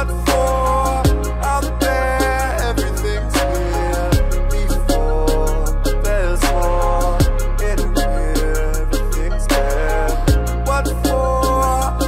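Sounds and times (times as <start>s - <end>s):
pop song with beat bass and drums: 0.0s - 12.0s.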